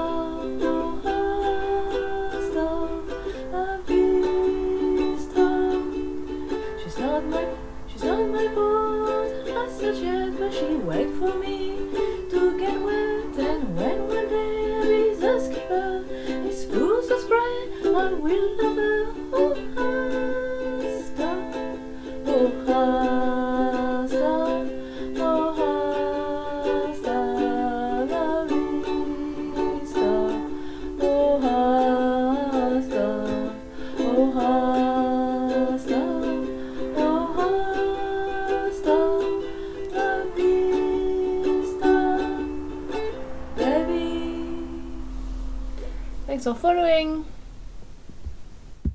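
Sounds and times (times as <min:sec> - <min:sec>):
woman singing: 0:00.0 - 0:45.2
ukulele strumming: 0:00.0 - 0:47.3.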